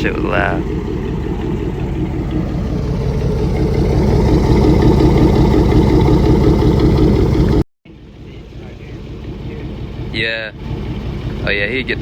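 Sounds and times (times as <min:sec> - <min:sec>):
loud rumbling exhaust: 0:00.0 - 0:12.0.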